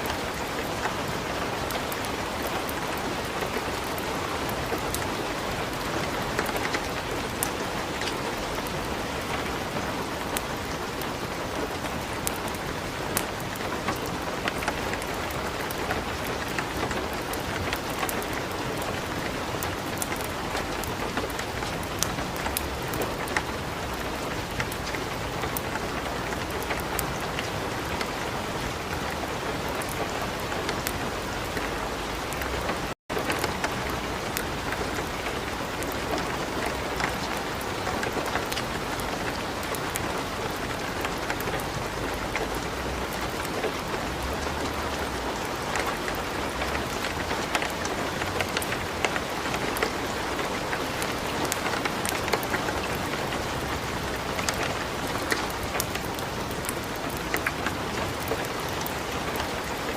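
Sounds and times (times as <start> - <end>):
wood fire crackling: 0.0 - 31.0, 31.6 - 59.9
light rain hiss: 0.0 - 59.9.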